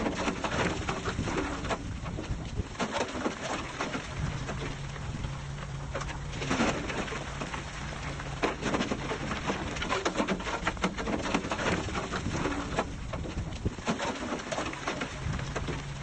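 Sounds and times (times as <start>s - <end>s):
soil and rocks clattering: 0.0s - 4.7s, 5.9s - 15.9s.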